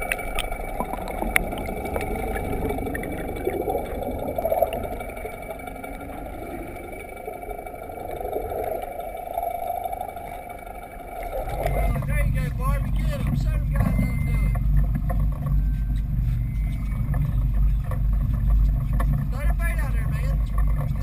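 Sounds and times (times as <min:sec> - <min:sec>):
boat motor rush underwater: 0:00.0 - 0:21.0
faint clicks: 0:00.0 - 0:21.0.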